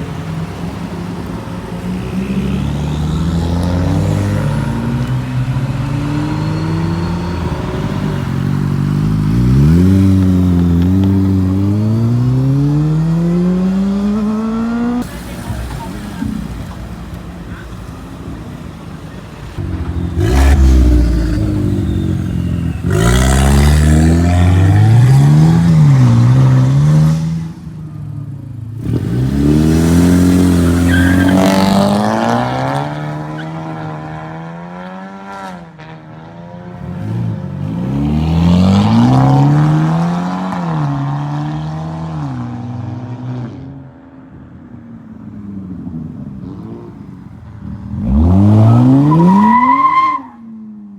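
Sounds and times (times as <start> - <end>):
car engines accelerating hard: 0.0 - 43.8, 45.7 - 50.2.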